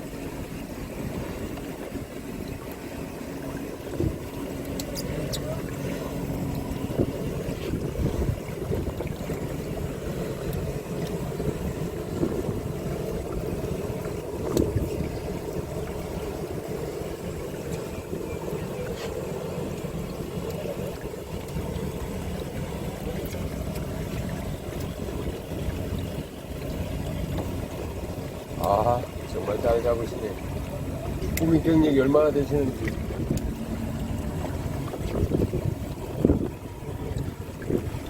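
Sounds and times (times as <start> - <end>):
boat engine humming: 0.0 - 38.0.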